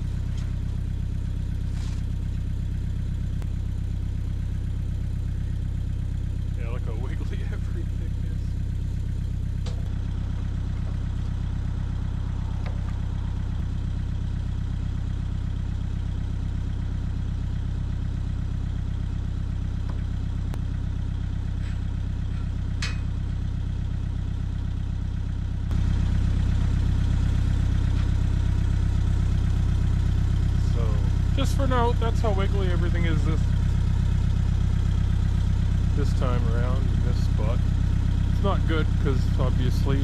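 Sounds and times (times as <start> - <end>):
excavator diesel engine idling: 0.0 - 40.0.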